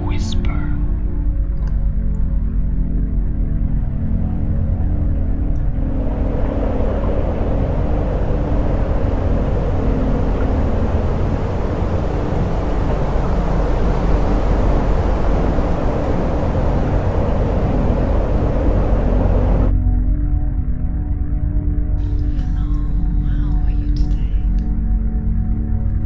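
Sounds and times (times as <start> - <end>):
loud low rumble: 0.0 - 26.0.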